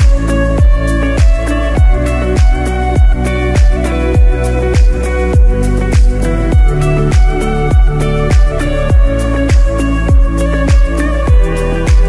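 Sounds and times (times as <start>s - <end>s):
deep kick drums: 0.0s - 12.0s
held chords: 0.0s - 12.0s.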